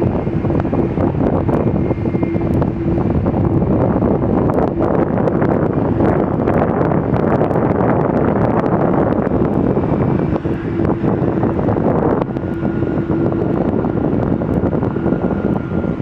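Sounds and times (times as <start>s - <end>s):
airliner engines: 0.0s - 16.0s
faint steady whine: 0.0s - 16.0s
wind buffeting microphone: 0.0s - 16.0s.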